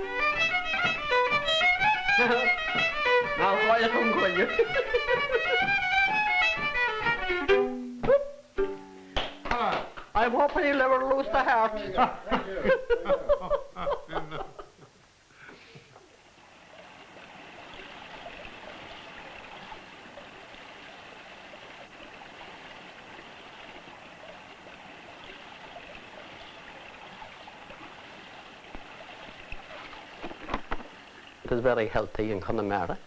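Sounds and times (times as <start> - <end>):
running water: 0.0 - 33.0.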